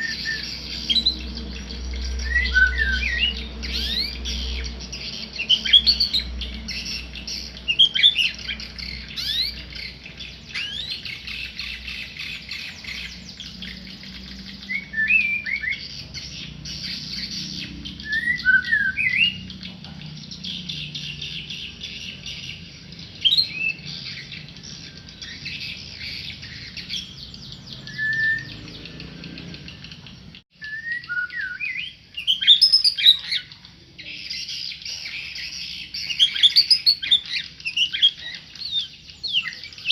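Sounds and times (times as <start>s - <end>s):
songbird singing whistled phrases: 0.0s - 39.9s.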